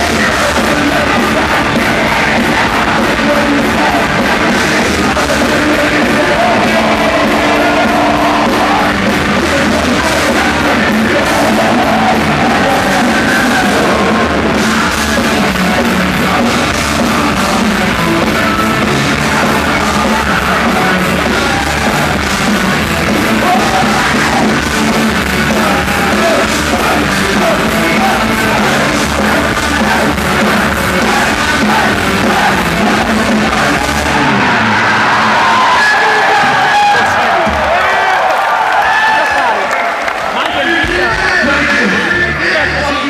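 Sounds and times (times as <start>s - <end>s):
person shouting singing: 0.0s - 37.5s
hard rock band playing: 0.0s - 43.0s.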